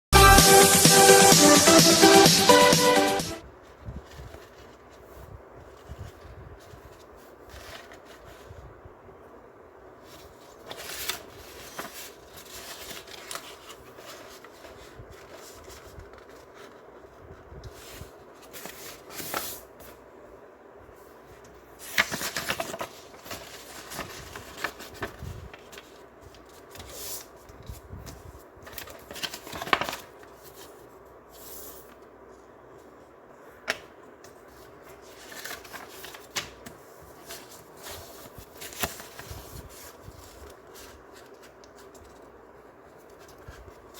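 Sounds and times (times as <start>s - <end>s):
faint background hum: 3.3s - 43.9s
paper rustling and crinkling: 3.6s - 8.8s, 10.0s - 20.1s, 21.1s - 43.9s.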